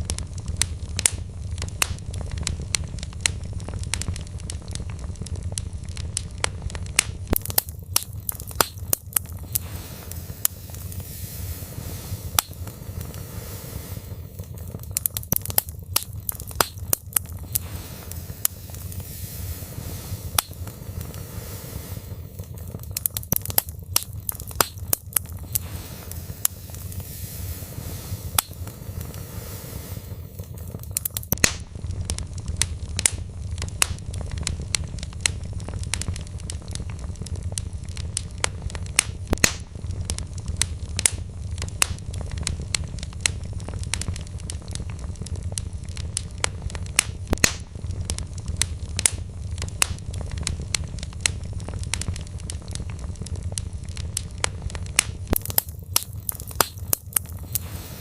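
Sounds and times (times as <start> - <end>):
flames rumbling: 0.0 - 58.0
logs crackling and popping: 0.0 - 58.0.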